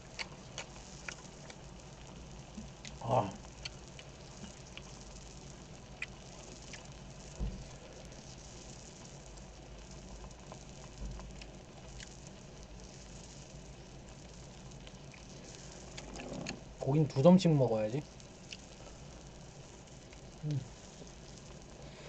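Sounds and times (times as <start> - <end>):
meat sizzling on a grill pan: 0.0 - 22.0.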